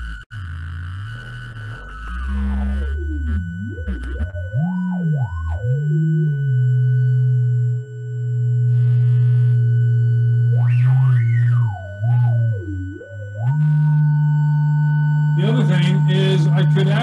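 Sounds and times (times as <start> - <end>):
synthesizer sine tones gliding: 0.0 - 17.0.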